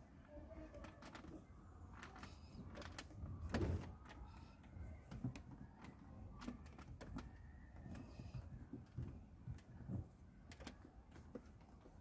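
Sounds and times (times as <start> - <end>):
plastic clicks and rubbing: 0.5 - 12.0.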